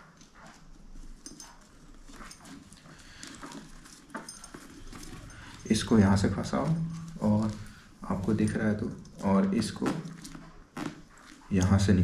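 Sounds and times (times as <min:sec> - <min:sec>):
strap rustling: 0:00.0 - 0:12.0.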